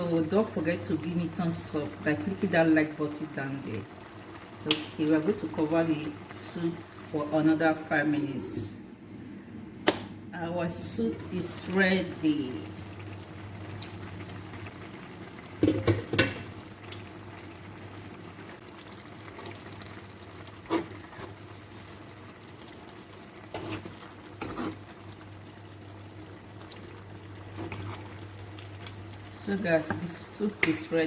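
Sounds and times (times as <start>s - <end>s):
soup cooking in a pot: 0.0s - 8.4s, 10.8s - 31.0s.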